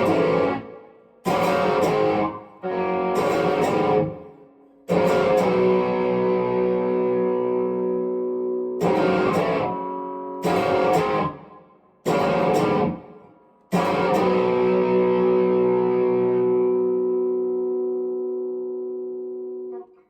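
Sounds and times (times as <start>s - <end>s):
electric guitar chords: 0.0s - 20.0s.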